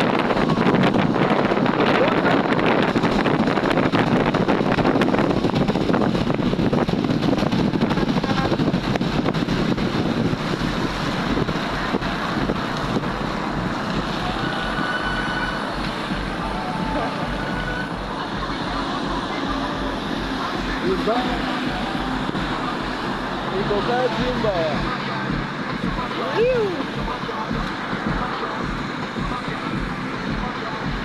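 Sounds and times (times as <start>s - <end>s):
passing vehicles: 0.0s - 31.0s
wind buffeting microphone: 0.0s - 31.0s.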